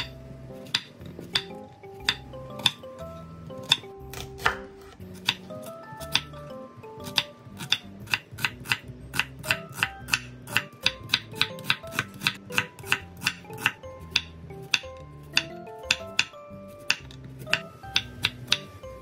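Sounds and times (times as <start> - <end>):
knife chopping on wooden board: 0.0 - 2.9, 3.6 - 6.3, 7.0 - 18.7.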